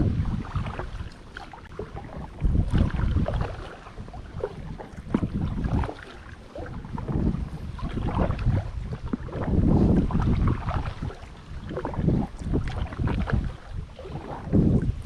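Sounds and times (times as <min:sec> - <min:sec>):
kayak paddle splashing in water: 0:00.0 - 0:15.0
wind buffeting microphone: 0:00.0 - 0:15.0.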